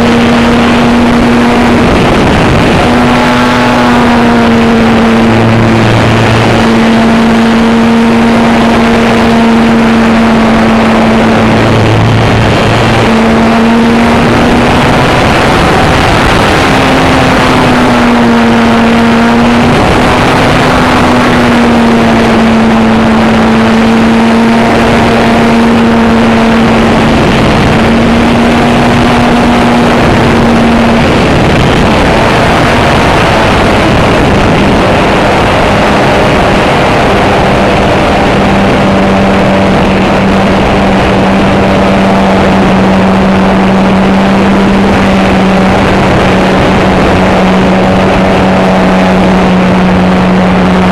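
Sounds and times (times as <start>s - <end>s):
model airplane motor and propeller: 0.0s - 50.9s
wind on microphone: 0.0s - 50.9s.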